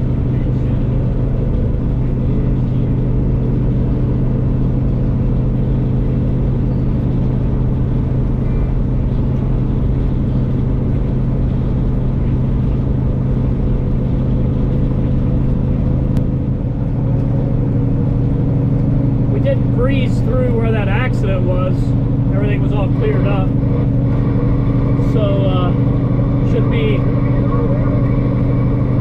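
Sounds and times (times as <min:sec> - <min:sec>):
road noise: 0:00.0 - 0:29.0
truck diesel engine cruising: 0:00.0 - 0:29.0.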